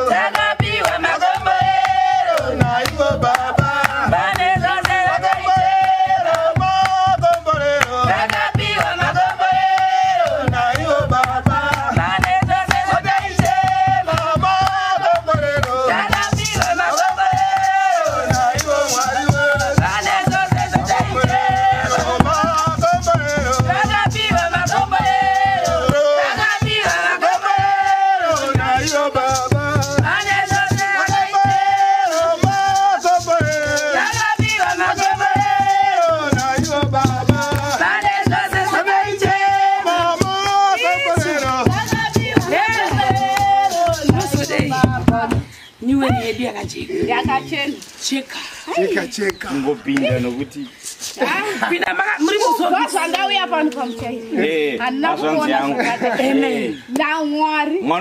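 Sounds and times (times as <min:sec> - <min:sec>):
hand clapping: 0:00.0 - 0:45.4, 0:49.3 - 0:50.3, 0:56.9 - 0:57.2
hand drum beaten by hand: 0:00.0 - 0:47.8
group singing: 0:00.0 - 0:48.0, 0:51.0 - 0:57.1
rattle shaking: 0:00.0 - 0:48.1, 0:50.8 - 0:53.4.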